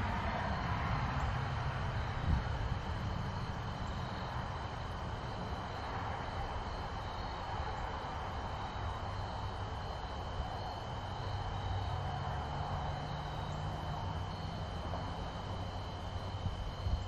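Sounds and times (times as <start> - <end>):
distant aircraft engine drone: 0.0 - 17.0
high-pitched insect trill: 0.4 - 17.0.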